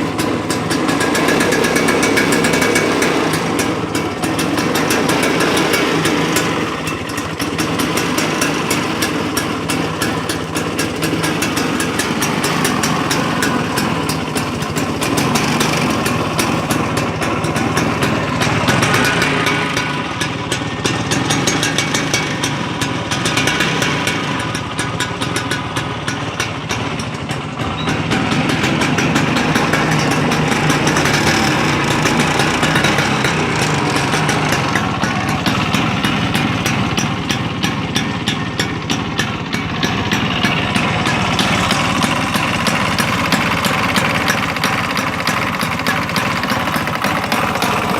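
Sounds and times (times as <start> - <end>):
scooter engine running: 0.0 - 47.9.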